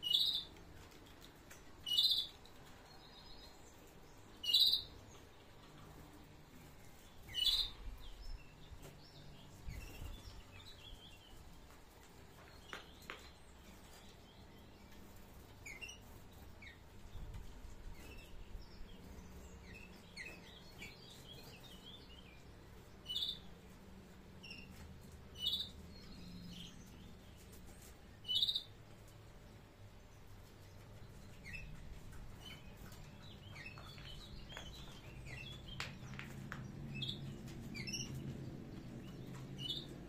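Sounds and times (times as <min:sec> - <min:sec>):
canaries chirping and twittering: 0:00.0 - 0:40.0.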